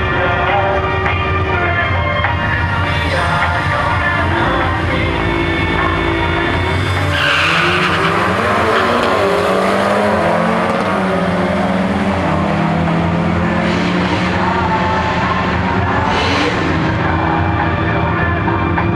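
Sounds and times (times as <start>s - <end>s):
turbocharged car engine revving: 2.6s - 18.9s.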